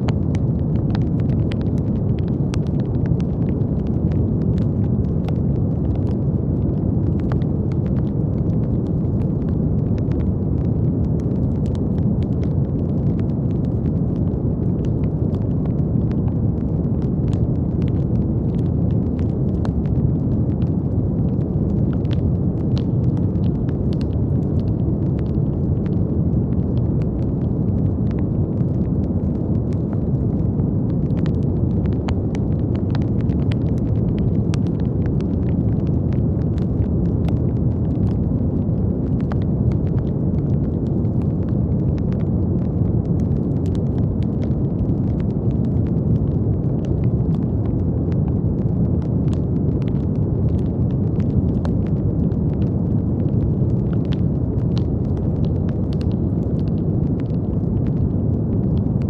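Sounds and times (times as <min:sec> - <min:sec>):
faint crackling clicks: 0:00.1 - 0:59.0.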